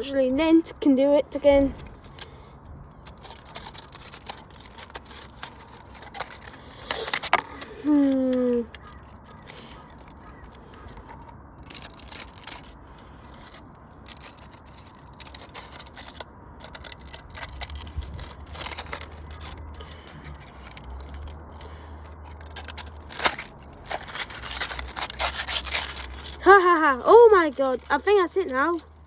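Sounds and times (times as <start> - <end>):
crackling and scraping: 0.0 - 29.0.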